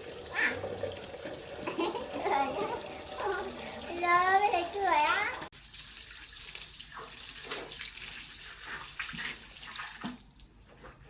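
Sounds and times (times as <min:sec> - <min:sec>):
water running and splashing: 0:00.0 - 0:10.5.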